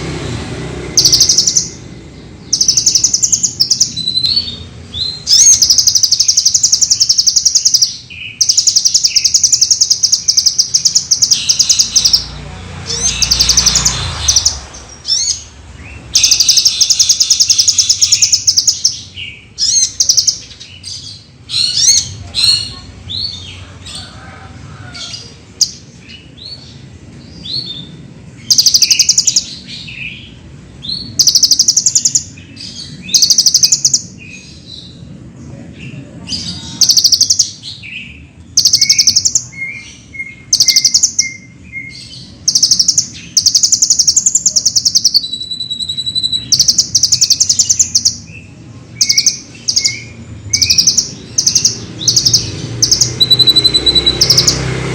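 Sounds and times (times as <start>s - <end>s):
sunbird chirped notes: 0.0s - 23.6s, 25.6s - 35.1s, 35.9s - 54.9s
sunbird high-pitched trills: 1.0s - 23.4s, 27.6s - 30.4s, 31.0s - 34.7s, 36.4s - 54.7s.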